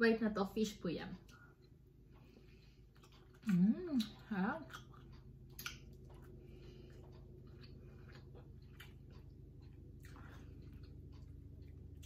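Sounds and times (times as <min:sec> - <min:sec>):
low hum: 0:00.0 - 0:12.0
person chewing: 0:01.2 - 0:12.0.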